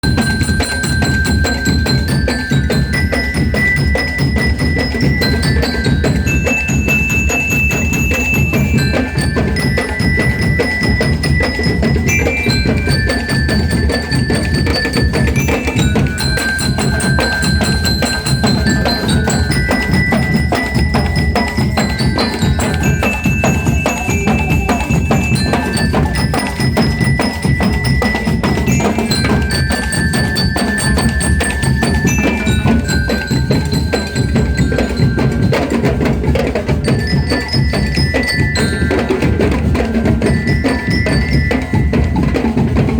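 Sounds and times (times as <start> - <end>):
bell lyres playing melody: 0.0 - 42.9
marching drums beat: 0.0 - 42.9.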